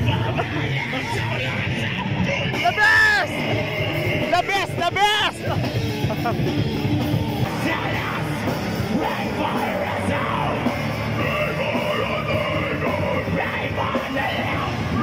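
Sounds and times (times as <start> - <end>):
singer shouting vocals: 0.0 - 5.6, 6.4 - 15.0
rock band playing: 0.0 - 15.0.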